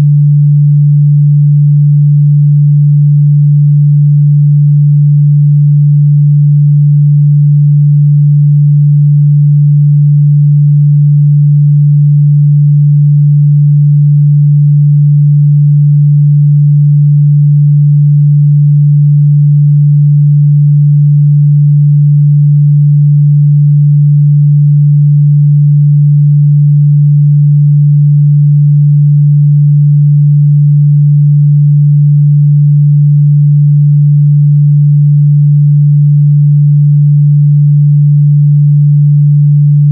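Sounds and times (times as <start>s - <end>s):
low sine-wave test tone: 0.0s - 39.9s.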